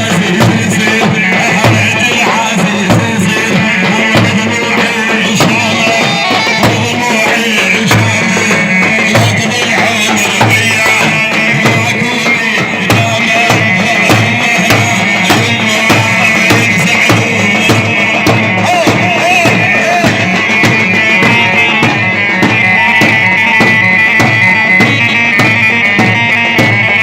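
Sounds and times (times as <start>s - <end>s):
driving drum beat: 0.0s - 27.0s.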